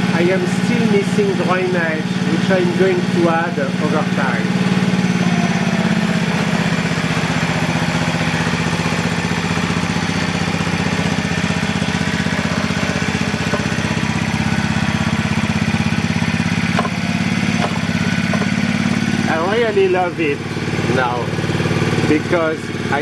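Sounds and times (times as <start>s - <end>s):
small engine droning: 0.0s - 23.0s.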